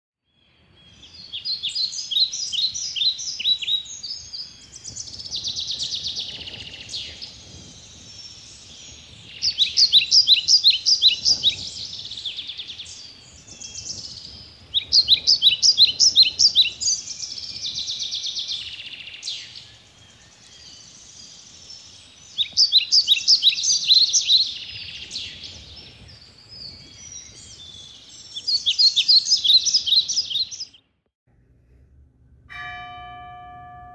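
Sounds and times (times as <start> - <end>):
songbirds singing: 0.2 - 31.0.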